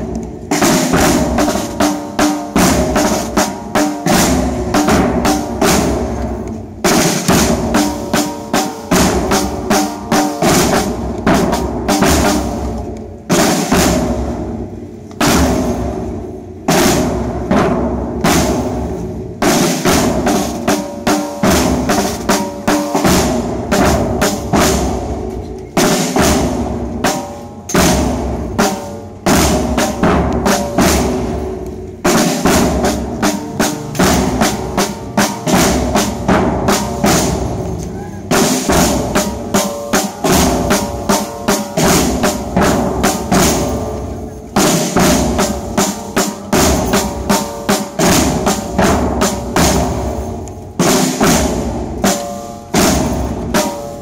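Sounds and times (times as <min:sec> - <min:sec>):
marching drums beating: 0:00.0 - 0:54.0.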